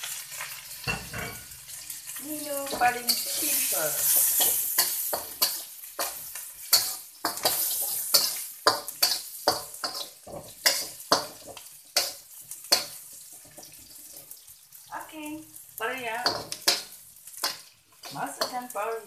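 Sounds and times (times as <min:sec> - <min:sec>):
spatula scraping a wok: 0:00.0 - 0:14.8, 0:15.6 - 0:18.8
onions sizzling in oil: 0:00.0 - 0:19.0.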